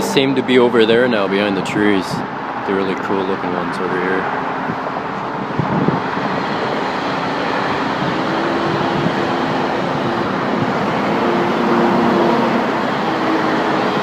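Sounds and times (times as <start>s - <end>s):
road traffic rushing: 0.0s - 14.0s.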